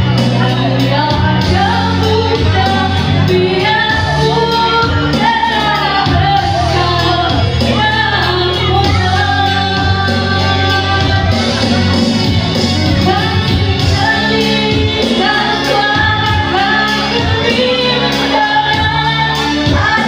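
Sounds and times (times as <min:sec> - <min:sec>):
held bass notes: 0:00.0 - 0:20.0
person singing: 0:00.0 - 0:20.0.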